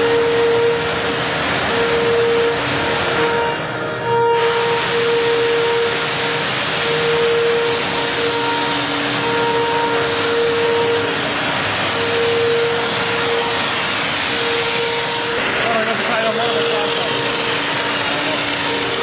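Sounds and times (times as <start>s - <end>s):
machine motor rushing noise: 0.0s - 19.0s
pulsing hum: 0.0s - 19.0s.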